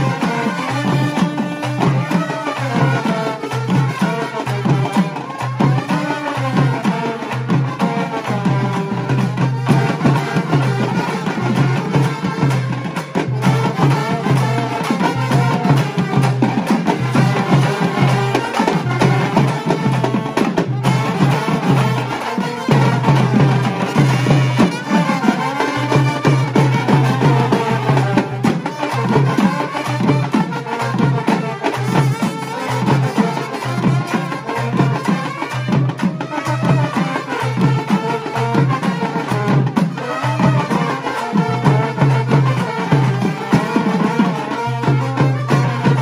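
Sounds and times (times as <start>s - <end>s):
brass band playing: 0.0s - 46.0s
steady drum beat: 0.0s - 46.0s.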